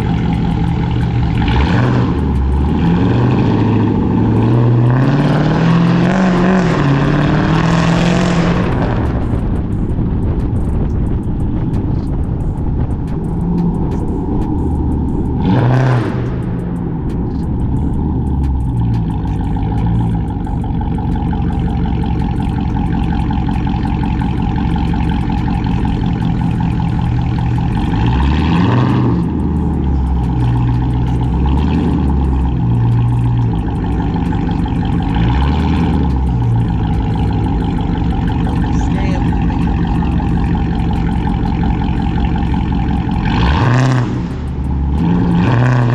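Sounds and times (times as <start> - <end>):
loud car exhaust while driving: 0.0 - 45.9.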